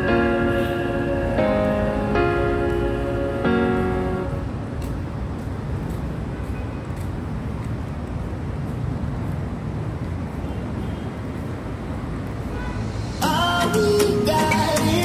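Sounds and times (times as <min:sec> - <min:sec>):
urban background rumble: 0:00.0 - 0:15.0.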